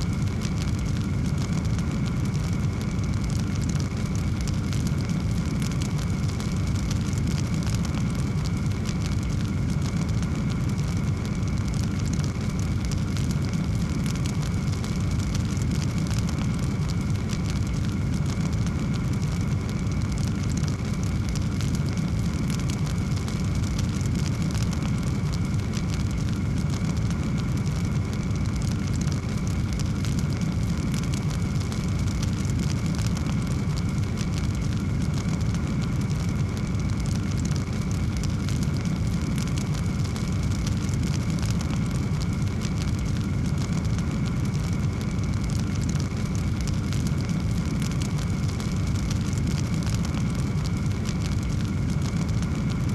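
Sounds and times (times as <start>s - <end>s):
fire crackling: 0.0s - 52.9s
fire roaring: 0.0s - 52.9s.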